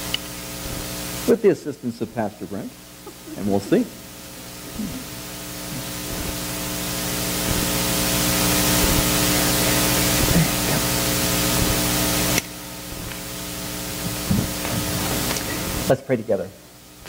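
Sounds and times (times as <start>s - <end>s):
electrical hiss: 0.0s - 17.0s
electrical hum: 0.0s - 17.0s.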